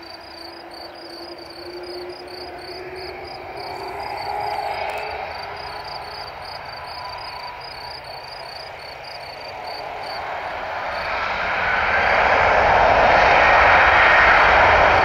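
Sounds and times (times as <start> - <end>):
insects chirping: 0.0 - 12.8
jet engines whining: 0.0 - 15.0.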